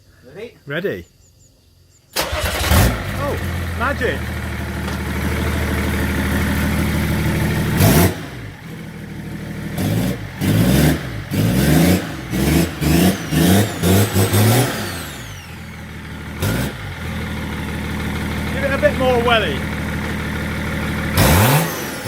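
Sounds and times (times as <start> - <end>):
diesel engine idling and revving: 2.2 - 22.0.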